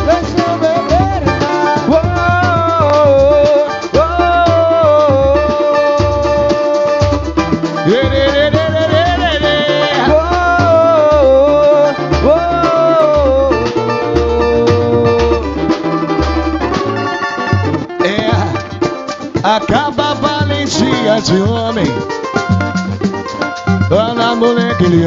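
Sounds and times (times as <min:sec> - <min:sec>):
gliding melody line: 0:00.0 - 0:25.0
hand percussion strokes: 0:00.0 - 0:25.0
low drum beat: 0:00.0 - 0:25.0
plucked strings: 0:00.0 - 0:25.0.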